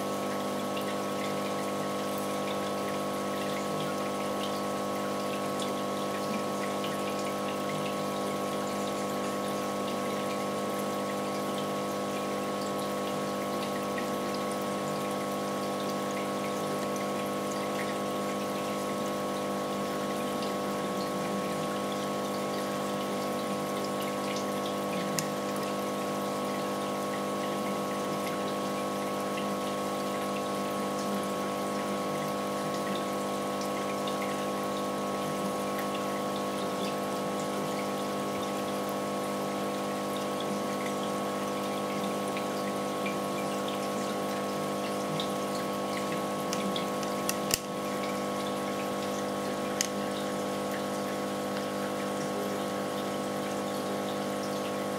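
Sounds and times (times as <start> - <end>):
aquarium pump humming: 0.0 - 54.9
water trickling: 0.0 - 54.9.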